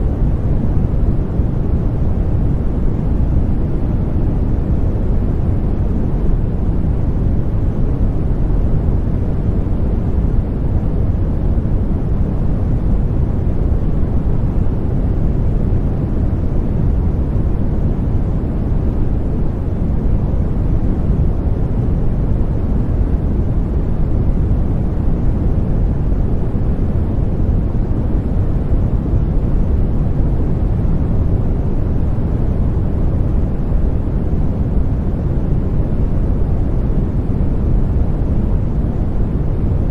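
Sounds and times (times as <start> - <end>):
deep white noise hiss: 0.0 - 39.9.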